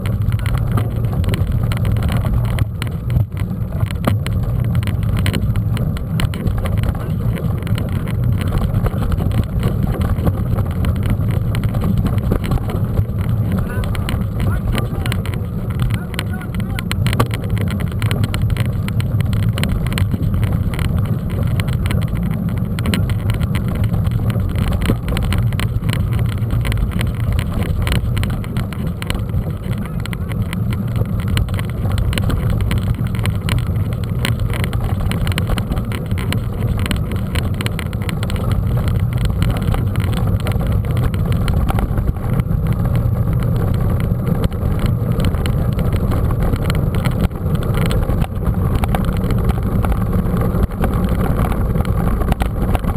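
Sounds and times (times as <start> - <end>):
bike rolling rumble: 0.0 - 52.9
small rattles and knocks: 0.0 - 52.9.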